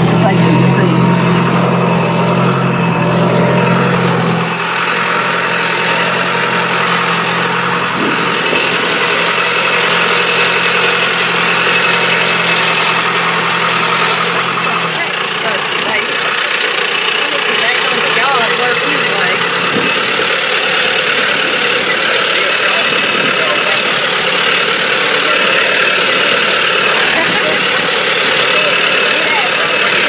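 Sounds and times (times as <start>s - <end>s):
farm vehicle engine running: 0.0s - 30.0s.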